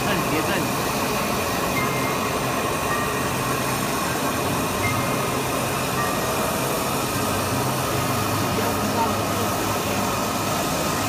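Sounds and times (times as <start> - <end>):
cutting machine humming and hissing: 0.0 - 11.0.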